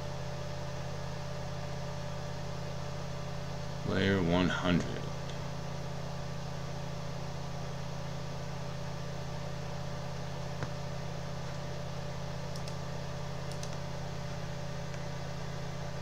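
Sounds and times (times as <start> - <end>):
low hum with faint hiss: 0.0 - 16.0.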